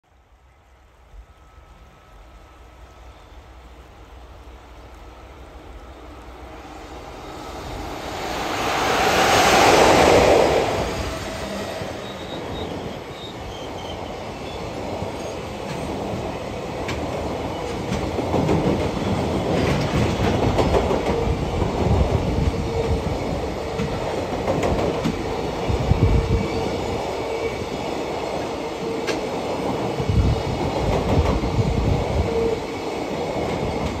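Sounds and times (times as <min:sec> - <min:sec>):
electric locomotive passing: 0:00.1 - 0:34.0.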